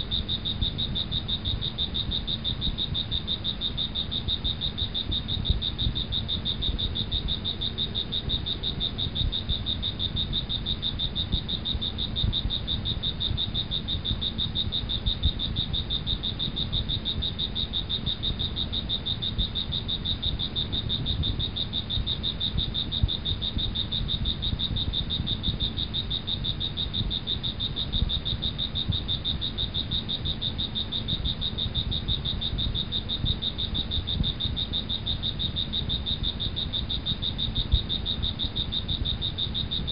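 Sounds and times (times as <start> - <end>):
crickets trilling: 0.0 - 39.9
frogs: 0.0 - 39.9.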